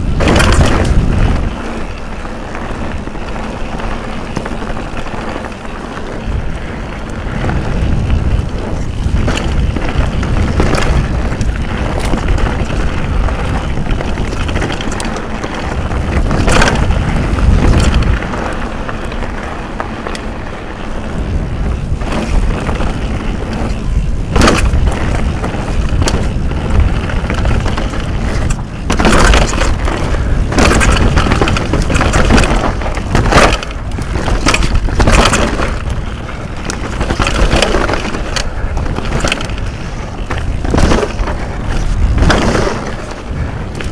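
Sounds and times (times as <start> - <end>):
bike knocks and clatter: 0.0 - 43.9
tyre rumble on dirt trail: 0.0 - 43.9
wind buffeting microphone: 0.0 - 43.9.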